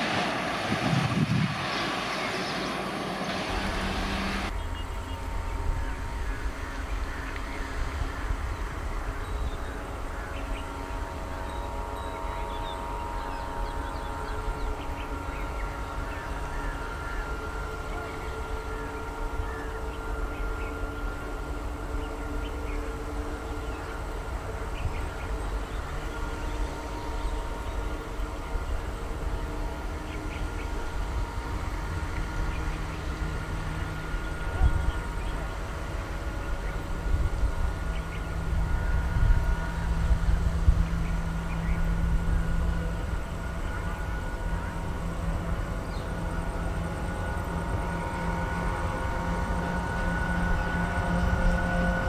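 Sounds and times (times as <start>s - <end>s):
faint steady tones: 0.0s - 52.0s
freight train rumbling past: 0.0s - 52.0s
locomotive hum: 0.0s - 52.0s.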